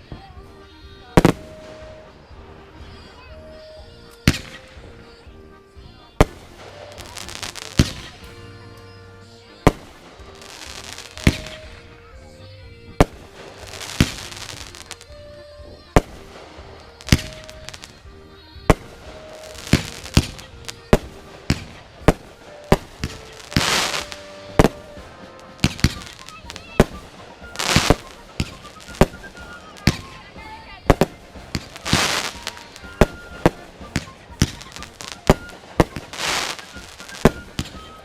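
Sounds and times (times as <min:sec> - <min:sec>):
faint music: 0:00.0 - 0:38.0
fireworks banging: 0:00.0 - 0:38.0
hissing crackle of fireworks: 0:00.0 - 0:38.0.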